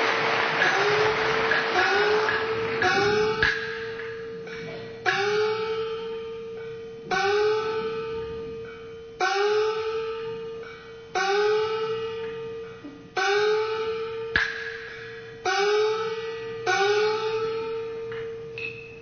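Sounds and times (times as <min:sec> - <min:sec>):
small gong ringing: 0:00.0 - 0:19.0.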